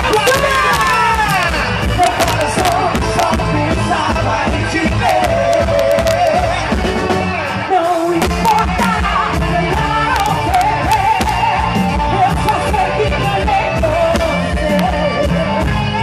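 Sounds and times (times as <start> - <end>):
drums steady beat: 0.0 - 16.0
live band playing: 0.0 - 16.0
person singing: 0.0 - 16.0.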